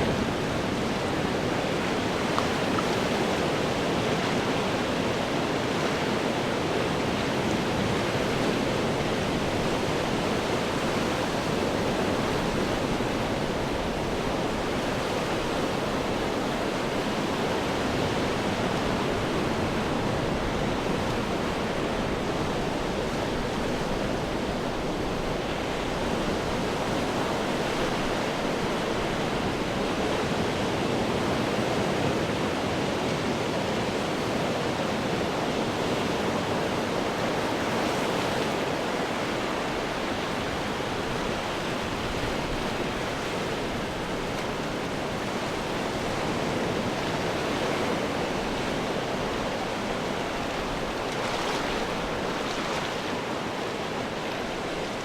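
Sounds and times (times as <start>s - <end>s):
ocean waves breaking on rocks: 0.0s - 55.0s.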